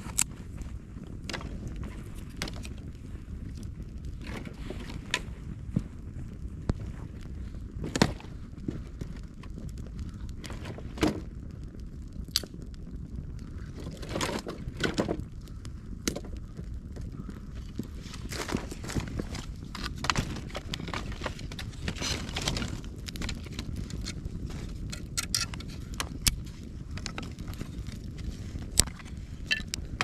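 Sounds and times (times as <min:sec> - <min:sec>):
campfire crackling and popping: 0:00.0 - 0:30.0
low fire rumble: 0:00.0 - 0:30.0.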